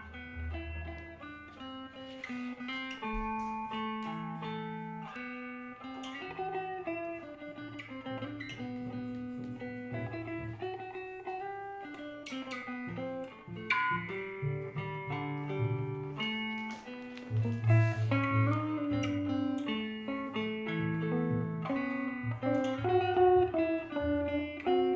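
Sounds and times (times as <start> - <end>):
plucked guitar notes: 0.0 - 24.9.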